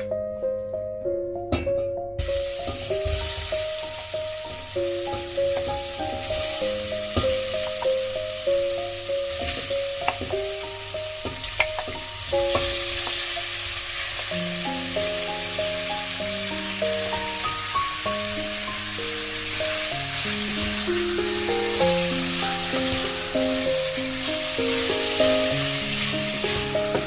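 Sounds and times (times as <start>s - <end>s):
food sizzling in a pan: 2.2s - 27.0s.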